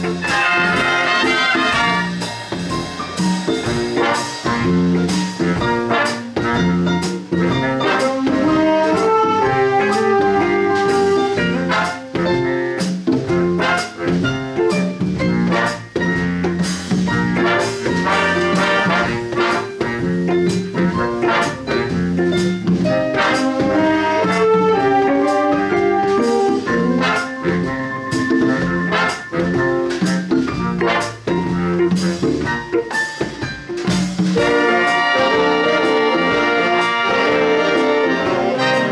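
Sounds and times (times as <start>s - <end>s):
trumpets and trombones: 0.0s - 2.4s, 3.9s - 12.8s, 13.4s - 14.6s, 15.4s - 16.0s, 17.3s - 20.3s, 21.0s - 22.1s, 23.0s - 32.5s, 34.4s - 38.9s
drums keeping a steady beat: 0.0s - 38.9s.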